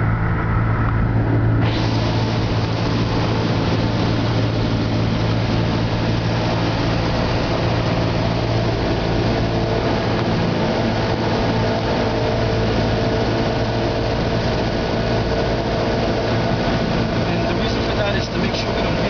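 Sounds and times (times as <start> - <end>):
aircraft engine droning: 0.0 - 19.0.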